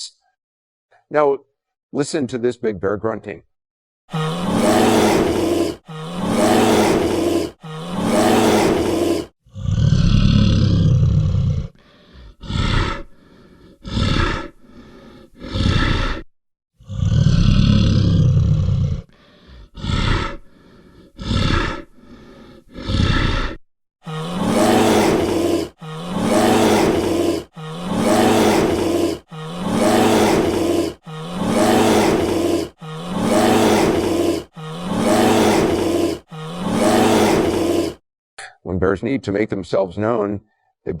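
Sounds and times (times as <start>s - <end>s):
bear roaring and grunting: 4.1s - 38.0s.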